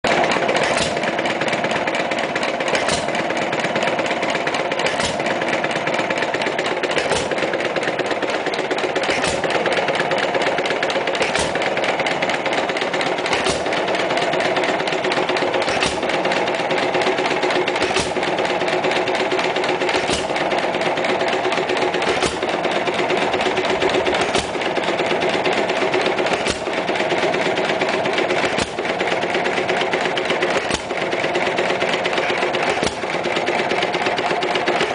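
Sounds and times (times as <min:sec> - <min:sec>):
stationary engine firing and clattering: 0:00.1 - 0:34.9.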